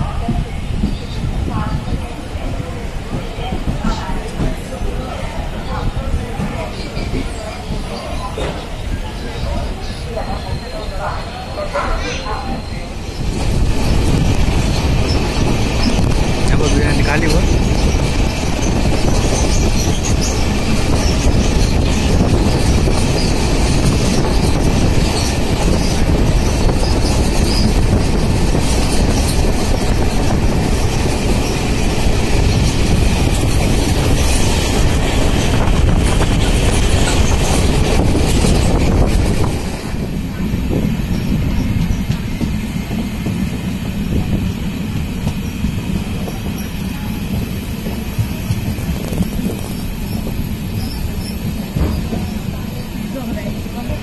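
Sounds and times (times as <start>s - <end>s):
train wheels rushing on rail: 0.0s - 54.0s.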